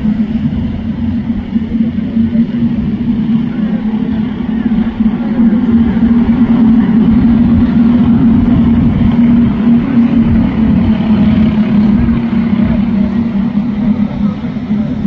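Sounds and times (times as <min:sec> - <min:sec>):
kart engines droning: 0:00.0 - 0:15.0.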